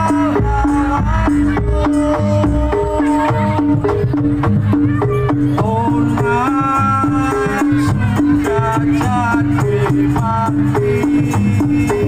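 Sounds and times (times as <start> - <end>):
drums and percussion: 0.0 - 12.0.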